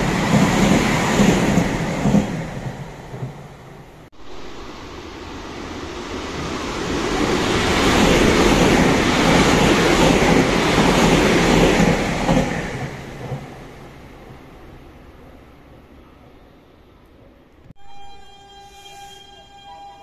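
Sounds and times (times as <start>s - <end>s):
train passing at speed: 0.0s - 17.4s.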